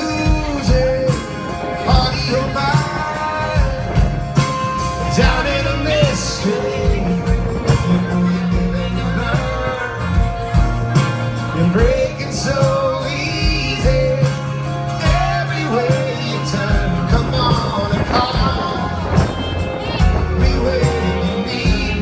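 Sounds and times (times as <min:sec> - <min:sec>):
person singing: 0:00.0 - 0:10.8, 0:11.4 - 0:22.0
live rock band playing: 0:00.0 - 0:22.0.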